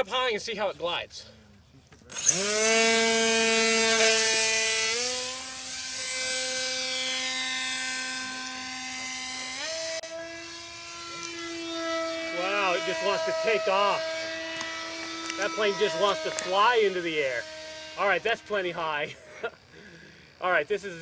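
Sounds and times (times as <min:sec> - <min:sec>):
model plane motor whine: 0:02.1 - 0:21.0.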